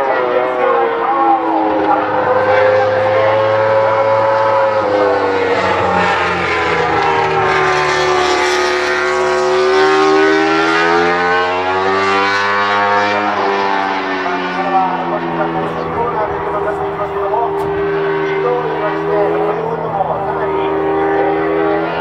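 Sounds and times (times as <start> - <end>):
motorcycle engine racing: 0.0 - 22.0.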